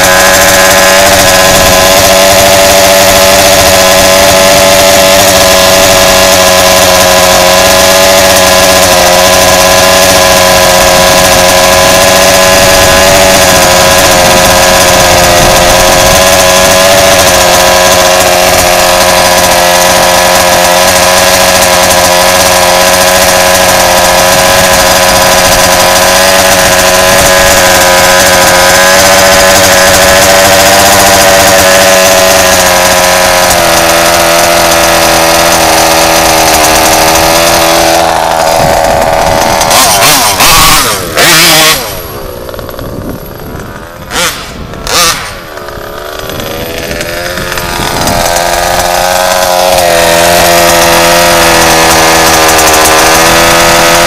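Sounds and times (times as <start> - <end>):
sharp loud engine bursts: 0.0 - 54.0
two-stroke engine running: 0.0 - 54.0.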